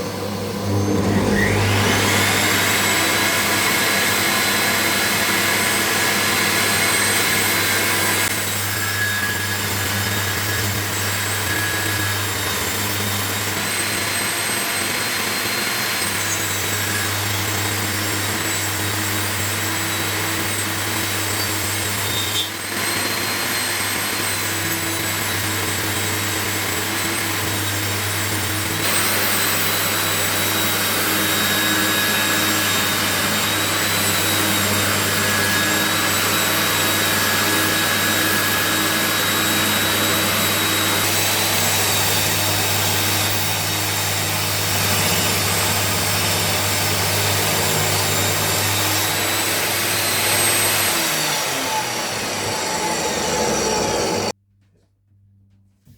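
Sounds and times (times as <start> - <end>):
woodworking machinery humming: 0.0 - 54.4.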